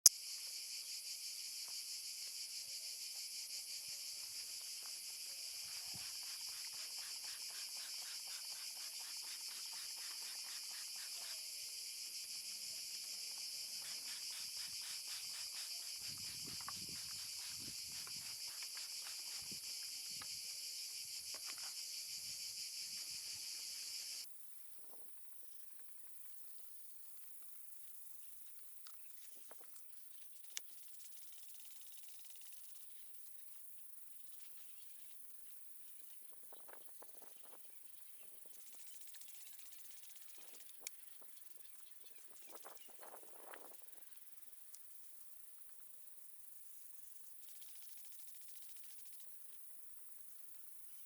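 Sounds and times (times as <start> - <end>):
insects chirring: 0.1 - 51.0.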